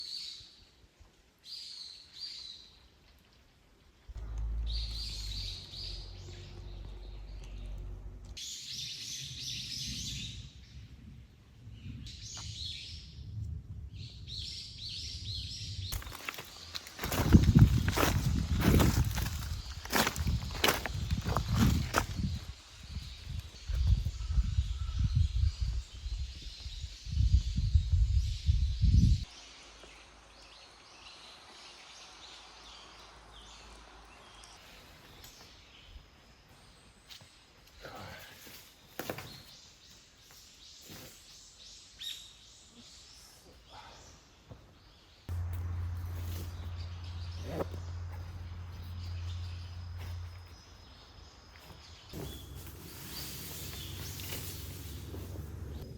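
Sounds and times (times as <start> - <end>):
birds chirping: 4.1 - 10.6, 14.0 - 55.9.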